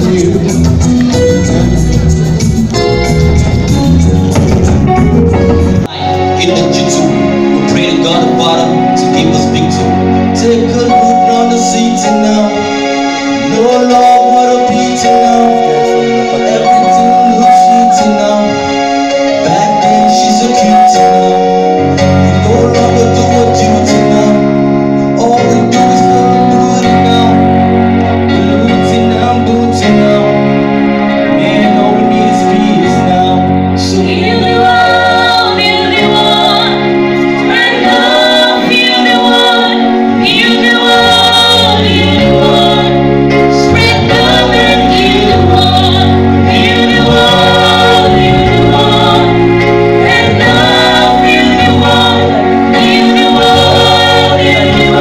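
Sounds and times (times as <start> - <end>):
group of singers: 0.0 - 55.0
live band music: 0.0 - 55.0.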